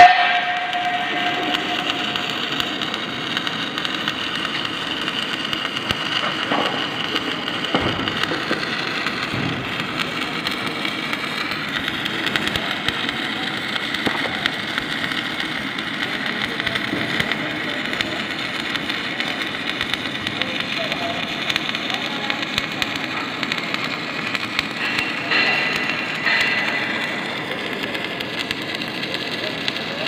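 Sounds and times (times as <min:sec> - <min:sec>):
stick-welding arc crackling: 0:00.0 - 0:30.0.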